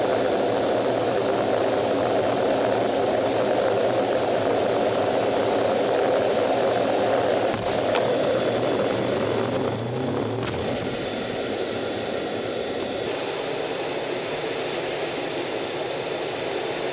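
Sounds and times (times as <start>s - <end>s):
high whine: 0.0s - 16.9s
jet engines roaring: 0.0s - 16.9s.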